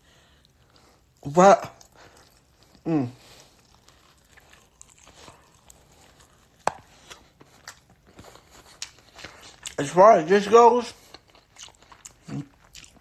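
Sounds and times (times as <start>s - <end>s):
person chewing: 0.1s - 13.0s.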